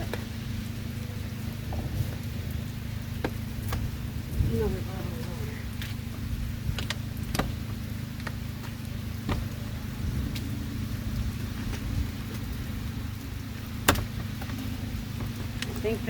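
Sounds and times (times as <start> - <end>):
car engine idling: 0.0 - 16.0
light rain: 0.0 - 16.0.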